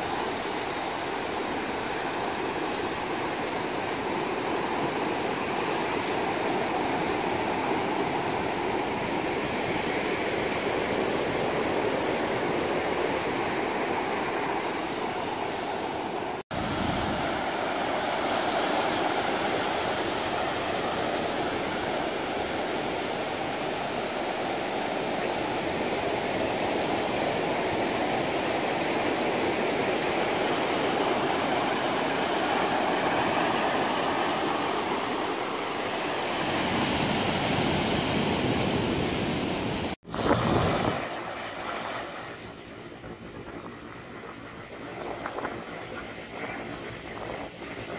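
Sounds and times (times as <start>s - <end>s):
surf washing on beach: 0.0s - 47.9s.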